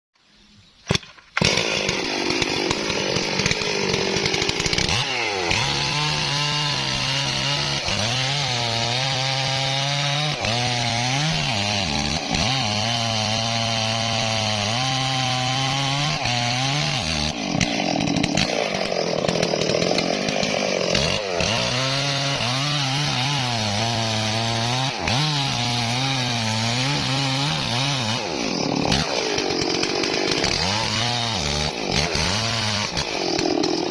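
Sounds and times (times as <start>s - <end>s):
chainsaw cutting wood: 0.9s - 33.9s.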